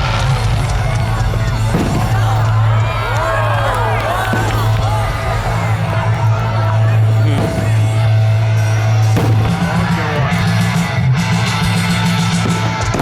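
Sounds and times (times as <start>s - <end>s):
loud rock music with electric guitar: 0.0s - 13.0s.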